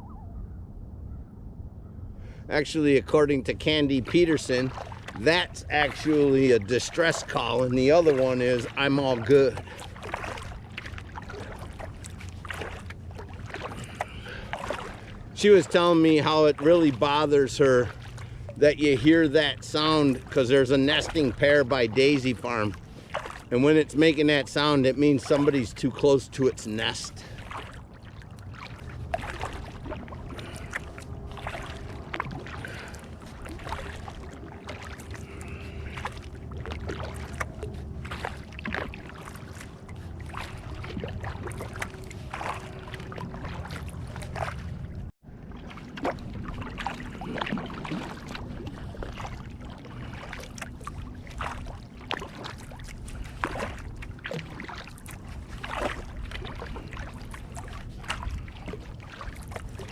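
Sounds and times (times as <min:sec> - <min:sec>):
steady low rumble: 0:00.0 - 0:59.9
paddle splashing water: 0:02.2 - 0:59.9.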